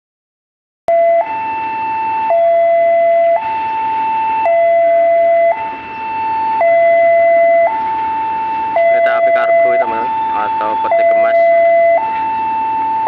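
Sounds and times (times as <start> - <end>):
level crossing two-tone alarm: 0.9 - 13.0.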